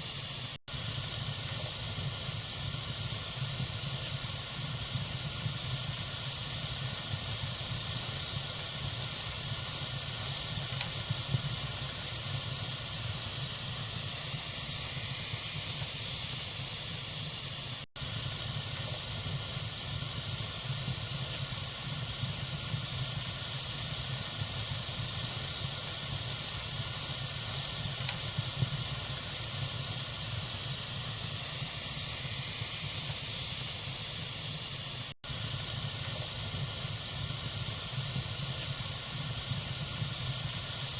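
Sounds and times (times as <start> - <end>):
faint fire crackles: 0.0 - 40.9
fire hissing: 0.0 - 40.9.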